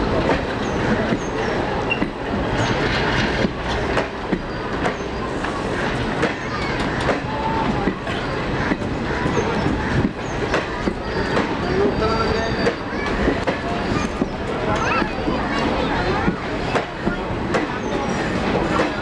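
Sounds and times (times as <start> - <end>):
train rolling rumble: 0.0 - 19.0
train wheels clacking over rail joints: 0.0 - 19.0.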